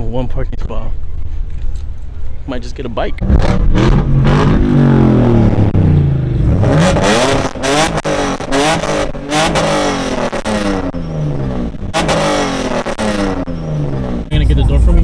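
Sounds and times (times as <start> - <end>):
vehicle engine revving: 1.0 - 15.0.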